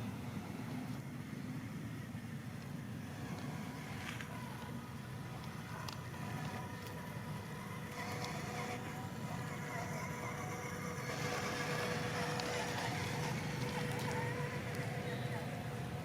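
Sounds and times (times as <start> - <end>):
electric motor whining: 3.1 - 16.0.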